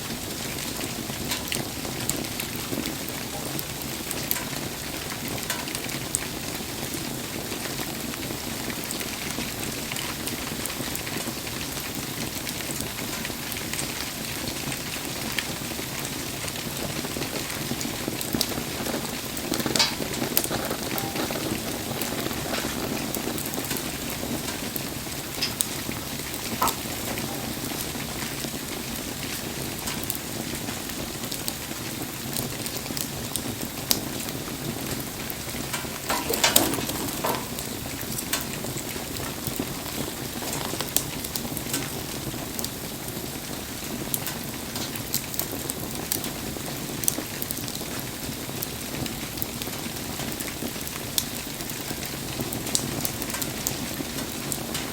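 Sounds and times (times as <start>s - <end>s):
fire crackling and popping: 0.0s - 54.9s
rain patter: 0.0s - 54.9s.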